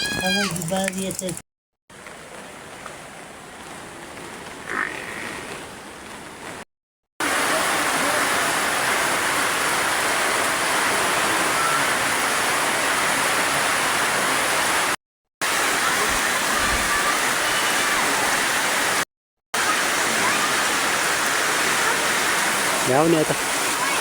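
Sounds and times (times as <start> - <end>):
rushing water: 0.0 - 6.6, 7.2 - 19.0, 19.6 - 24.0.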